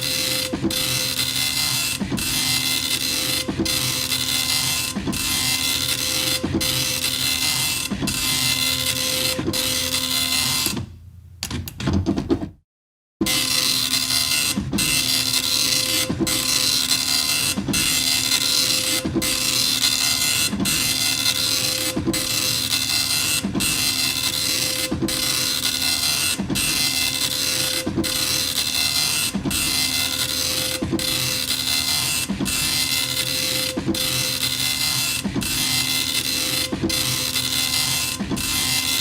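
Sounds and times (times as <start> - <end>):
dot matrix printer printing: 0.0 - 10.8, 13.2 - 39.0.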